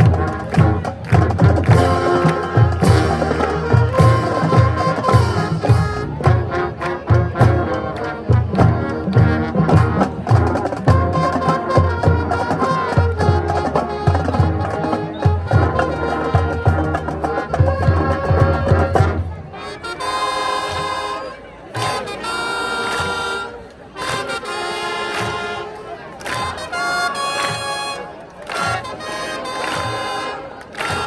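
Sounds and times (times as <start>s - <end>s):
snare drum strokes: 0.0s - 19.3s, 21.8s - 31.0s
marching band brass chords: 0.0s - 31.0s.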